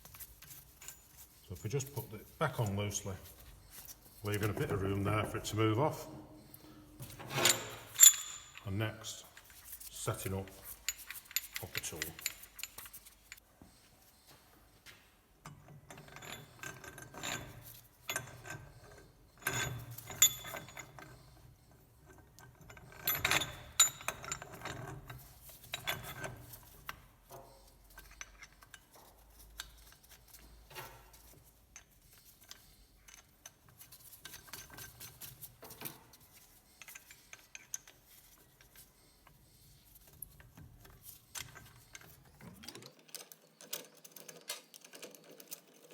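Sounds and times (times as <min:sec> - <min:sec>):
metal clinks and scrapes: 0:00.0 - 0:13.4, 0:15.5 - 0:45.9.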